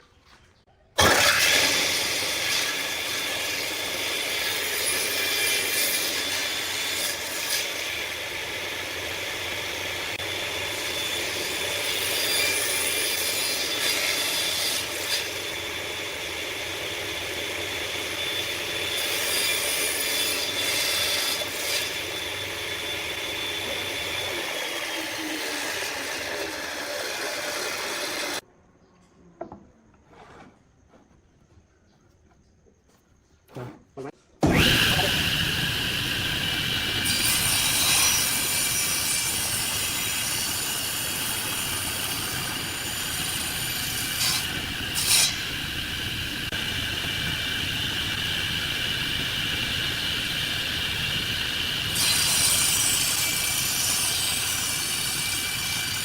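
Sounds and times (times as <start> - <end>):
table saw cutting wood: 1.0 - 28.4, 34.4 - 56.0.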